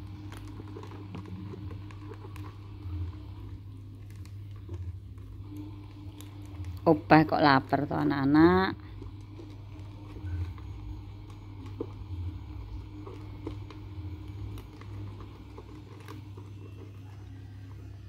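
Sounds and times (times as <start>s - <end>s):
kittens chewing: 0.0s - 8.0s, 8.8s - 18.0s
steady low hum: 0.0s - 18.0s.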